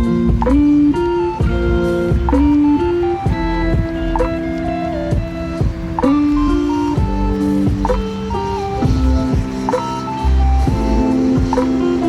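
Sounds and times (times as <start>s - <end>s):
plucked guitar over a beat: 0.0s - 12.0s.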